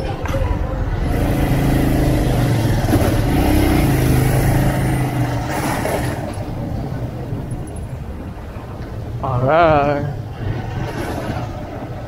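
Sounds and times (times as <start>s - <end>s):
road and traffic noise: 0.0s - 12.0s
vehicle engine humming: 0.0s - 12.0s.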